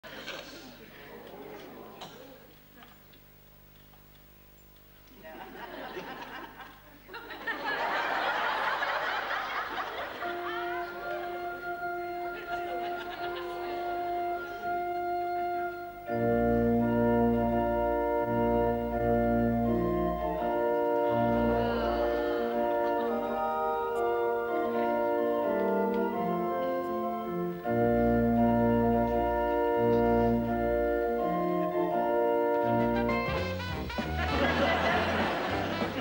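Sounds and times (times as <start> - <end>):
organ playing slow chords: 2.6 - 36.0.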